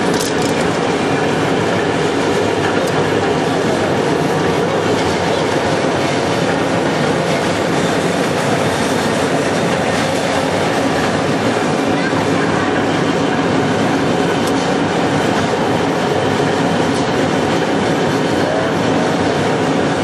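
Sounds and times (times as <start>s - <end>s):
pellet mill running: 0.0s - 20.0s.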